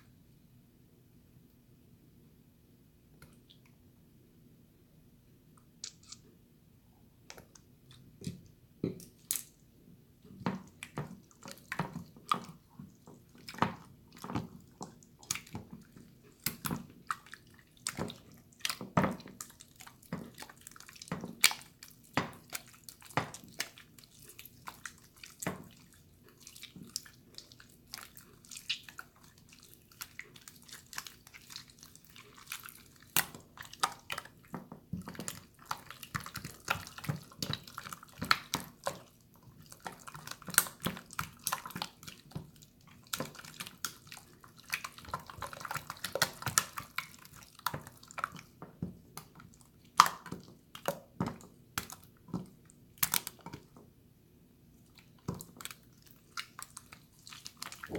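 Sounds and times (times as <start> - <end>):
slime squelching and popping: 7.3 - 53.8, 54.8 - 57.9.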